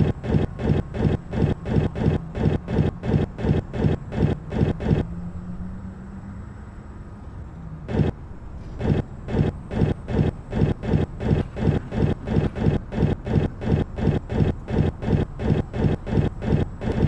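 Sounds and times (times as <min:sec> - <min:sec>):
low motor hum: 0:00.0 - 0:05.8, 0:07.9 - 0:17.0.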